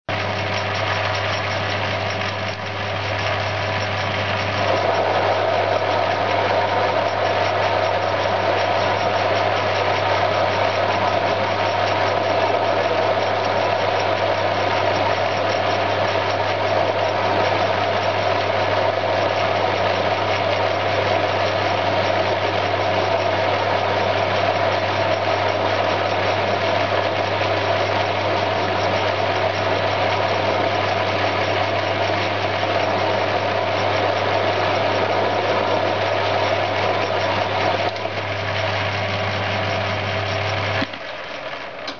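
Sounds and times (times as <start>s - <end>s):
cutter cutting steel shaft: 0.1s - 41.9s
lathe humming: 0.1s - 41.9s.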